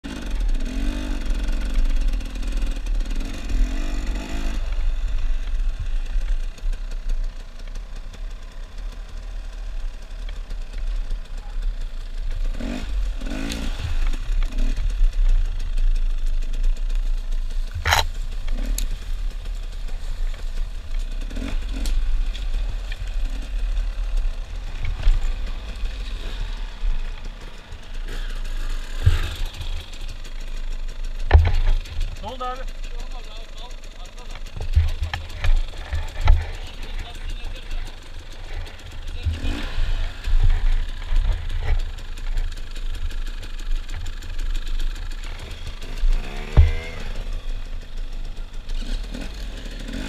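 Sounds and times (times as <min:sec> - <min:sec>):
dirt bike engine: 0:00.0 - 0:50.0.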